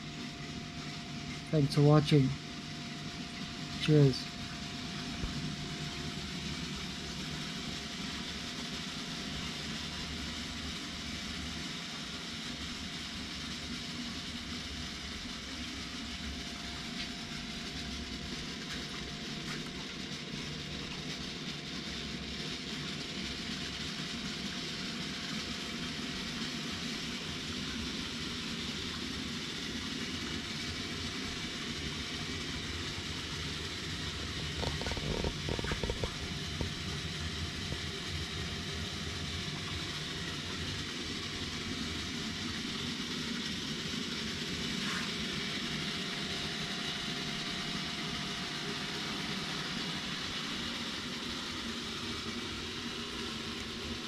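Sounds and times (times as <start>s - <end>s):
still humming and hissing: 0.0s - 54.0s.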